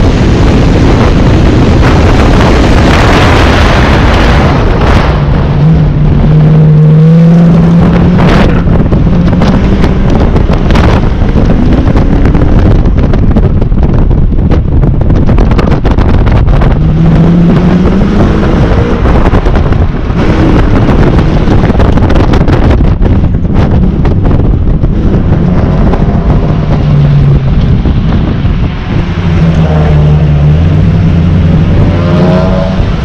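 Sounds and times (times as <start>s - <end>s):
car engine revving: 0.0s - 33.0s
wind buffeting microphone: 0.0s - 33.0s.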